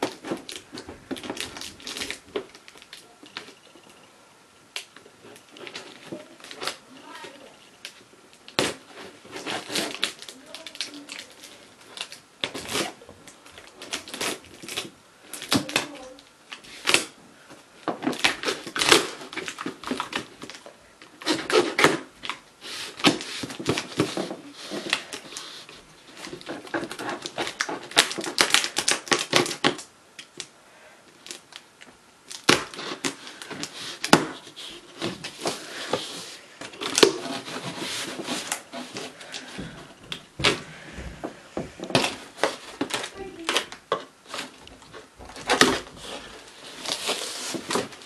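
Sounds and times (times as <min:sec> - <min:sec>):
packing tape ripping off cardboard: 0:00.0 - 0:03.6, 0:04.8 - 0:07.2, 0:07.8 - 0:17.2, 0:17.8 - 0:30.5, 0:32.2 - 0:40.6, 0:41.8 - 0:48.0.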